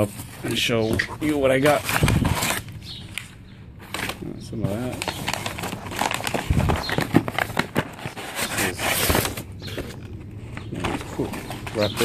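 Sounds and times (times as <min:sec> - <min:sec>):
packing paper rustling and crinkling: 0:00.0 - 0:12.0.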